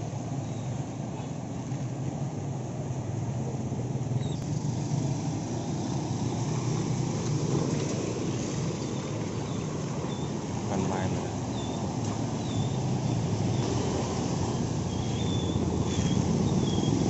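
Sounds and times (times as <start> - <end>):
river rushing: 0.0 - 17.0
motorbikes and cars passing: 0.1 - 17.0.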